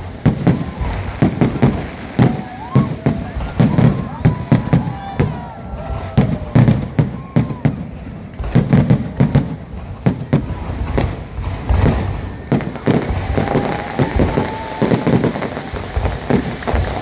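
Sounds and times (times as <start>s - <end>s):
fireworks bangs and crackling: 0.0s - 17.0s
low fireworks booms: 0.0s - 17.0s.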